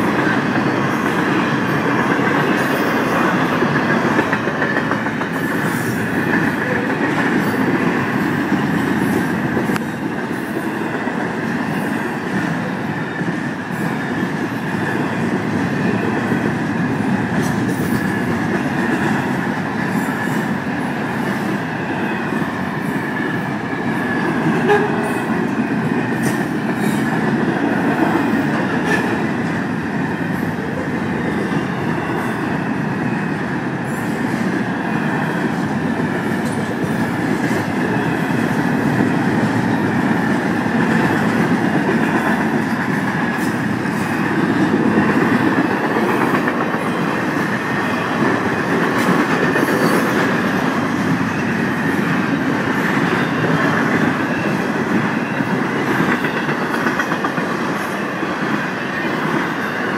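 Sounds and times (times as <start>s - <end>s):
train wheels clattering on rail: 0.0s - 59.9s.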